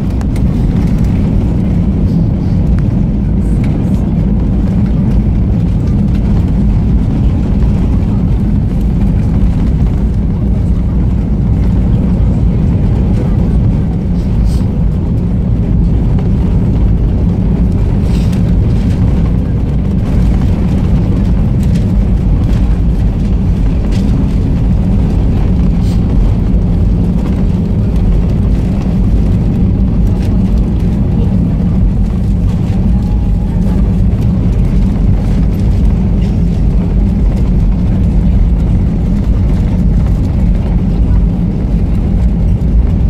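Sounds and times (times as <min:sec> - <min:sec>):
airplane cabin low rumble: 0:00.0 - 0:43.0.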